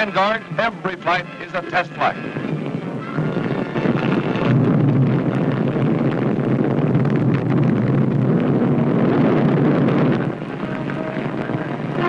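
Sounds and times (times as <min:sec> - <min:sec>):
rocket engine roaring: 0:00.0 - 0:12.0.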